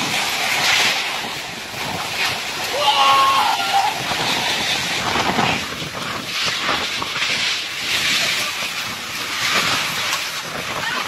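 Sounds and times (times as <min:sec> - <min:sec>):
strong storm wind gusting: 0:00.0 - 0:11.0.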